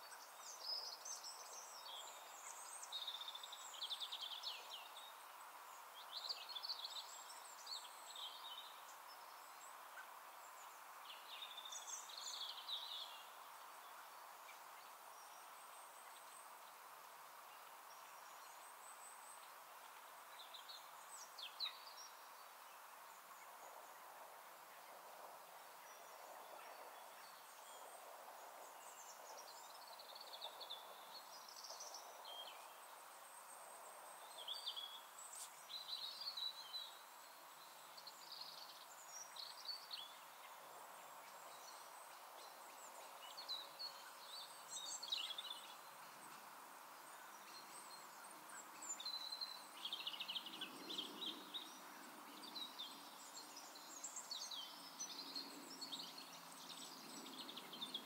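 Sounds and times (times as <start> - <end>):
low open-air hiss: 0.0 - 58.0
small birds chirping: 0.0 - 58.0.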